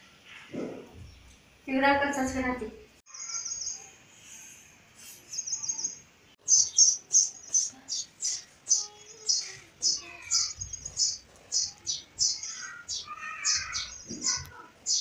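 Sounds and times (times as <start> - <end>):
birds chirping: 0.9 - 15.0.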